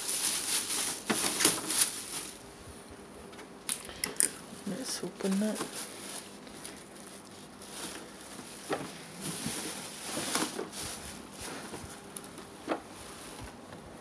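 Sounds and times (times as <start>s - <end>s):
plastic wrapping crinkling: 0.0s - 2.5s, 3.8s - 13.6s.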